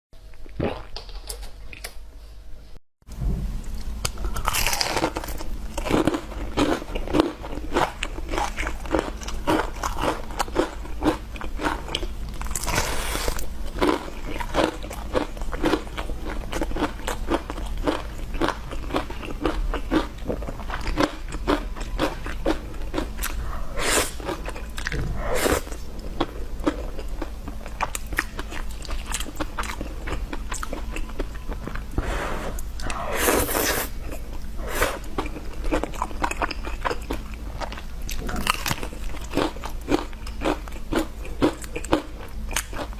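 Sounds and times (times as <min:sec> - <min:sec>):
crunchy food being chewed: 0:03.7 - 0:42.9.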